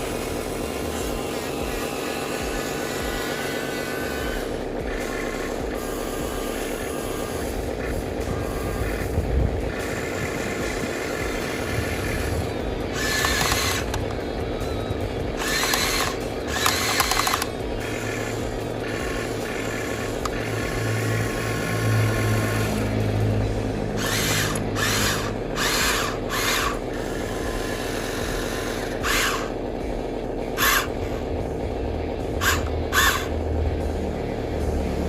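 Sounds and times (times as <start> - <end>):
small electric motor whirring: 0.0 - 35.0.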